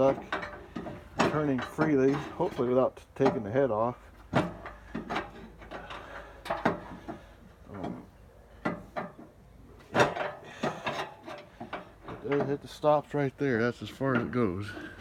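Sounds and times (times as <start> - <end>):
pry bar clunking against metal: 0.0 - 3.6, 4.2 - 12.7.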